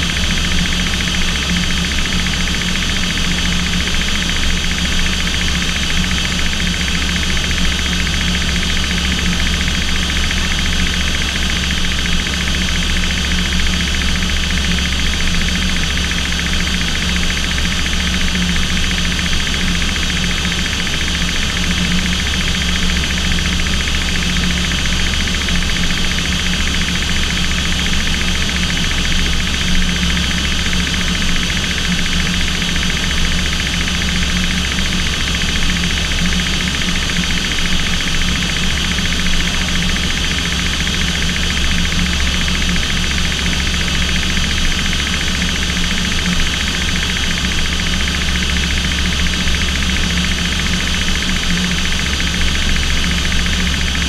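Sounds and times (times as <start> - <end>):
aircraft propeller engines droning: 0.0 - 54.0.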